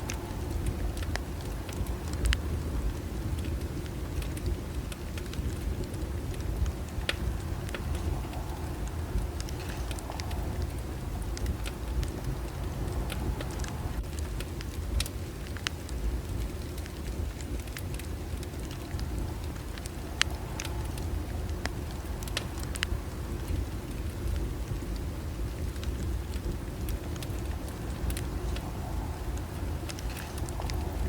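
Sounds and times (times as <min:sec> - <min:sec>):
bonfire crackling and popping: 0:00.0 - 0:31.0
low rumble: 0:00.0 - 0:31.0.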